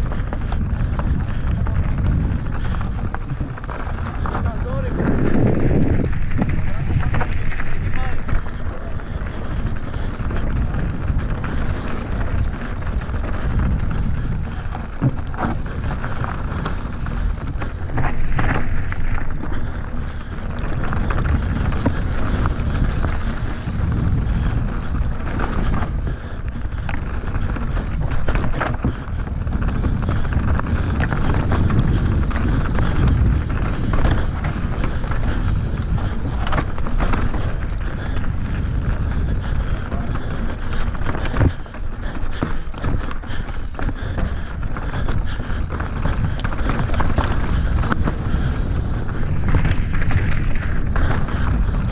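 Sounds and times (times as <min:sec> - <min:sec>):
bike clicks and knocks: 0:00.0 - 0:51.9
tyres rolling on gravel: 0:00.0 - 0:51.9
wind buffeting microphone: 0:00.0 - 0:51.9.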